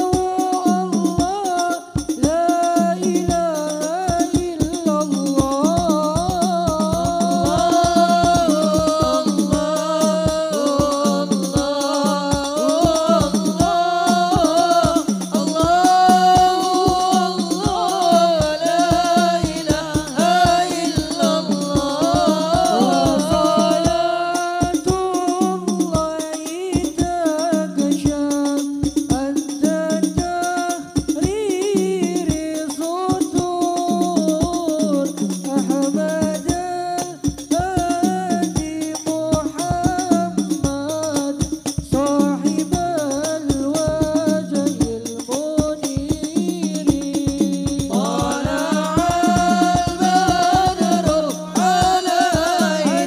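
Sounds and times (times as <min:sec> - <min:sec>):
hand-beaten frame drums: 0:00.0 - 0:53.0
men singing into microphones: 0:00.0 - 0:53.0.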